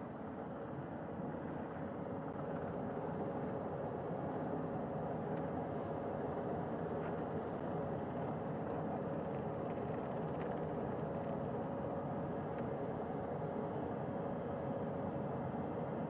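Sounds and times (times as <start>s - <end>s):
helicopter engine and rotor noise: 0.0s - 16.0s.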